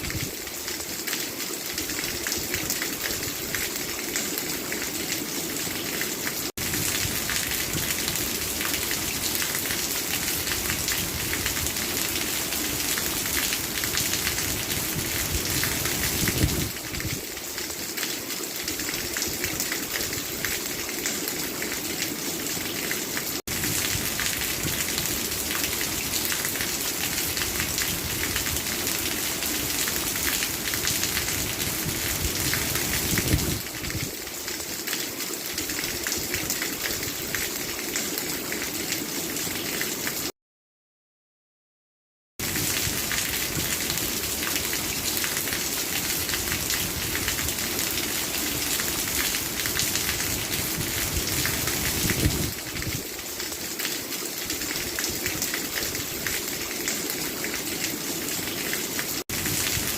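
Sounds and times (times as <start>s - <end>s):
steady rain pattering: 0.0s - 40.3s, 42.4s - 59.9s.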